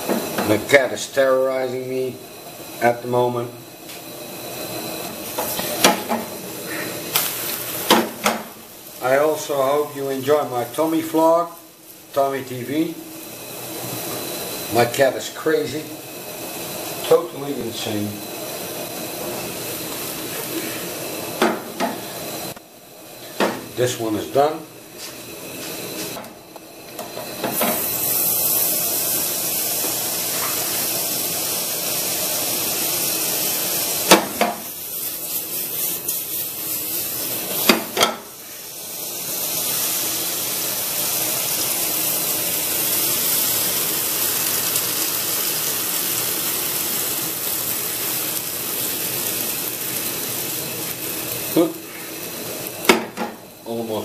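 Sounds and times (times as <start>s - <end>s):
batter sizzling in a frying pan: 0.0s - 54.0s.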